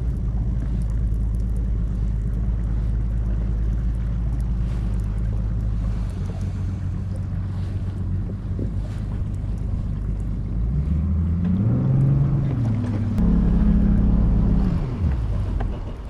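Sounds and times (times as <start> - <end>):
boat motor humming: 0.0 - 16.0
wind buffeting microphone: 0.0 - 16.0.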